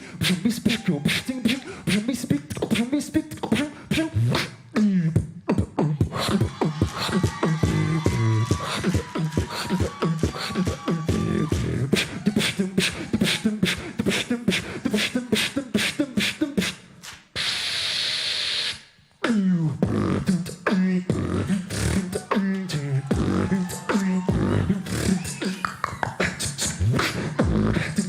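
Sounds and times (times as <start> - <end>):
person beatboxing: 0.0 - 28.0.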